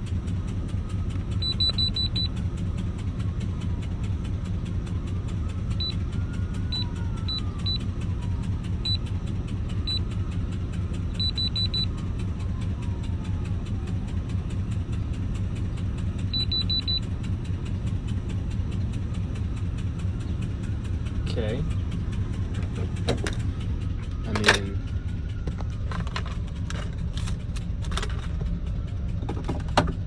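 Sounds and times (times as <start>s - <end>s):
engine idling with fast ticking: 0.0s - 30.0s.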